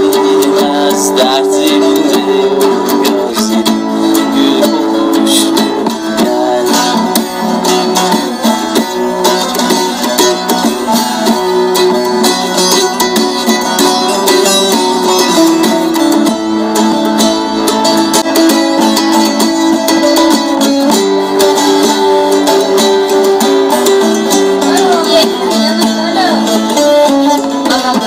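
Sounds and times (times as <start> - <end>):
plucked guitar and saz music: 0.0 - 28.0.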